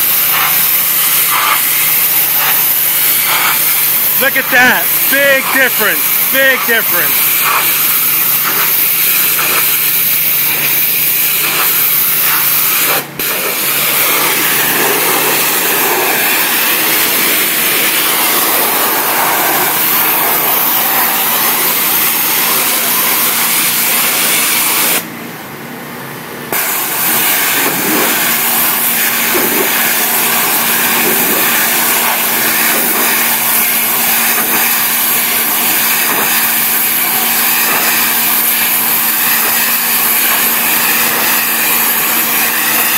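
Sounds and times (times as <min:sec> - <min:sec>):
pressure washer spray hiss: 0:00.0 - 0:25.0, 0:26.5 - 0:42.9
engine and pump hum: 0:00.0 - 0:42.9.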